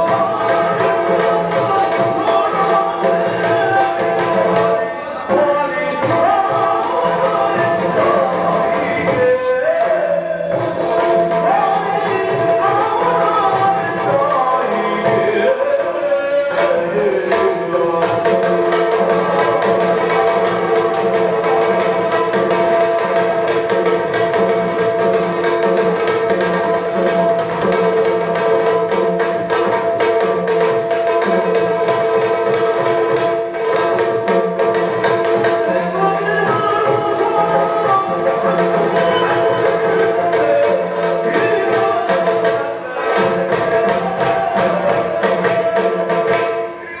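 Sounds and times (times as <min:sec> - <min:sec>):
drums playing rapid strokes: 0:00.0 - 0:09.5, 0:10.5 - 0:16.0, 0:16.6 - 0:47.0.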